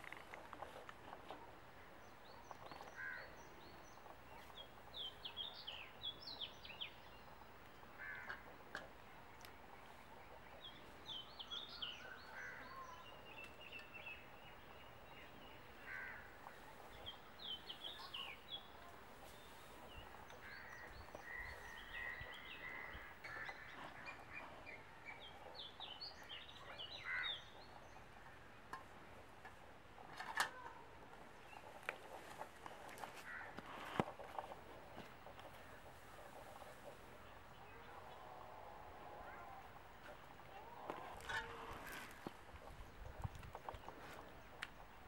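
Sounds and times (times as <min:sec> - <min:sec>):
low steady hiss: 0:00.0 - 0:45.0
small birds chirping: 0:00.0 - 0:45.0.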